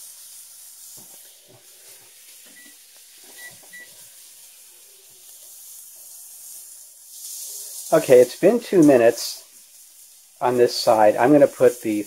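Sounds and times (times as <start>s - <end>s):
fish sizzling on a griddle: 0.0s - 12.0s.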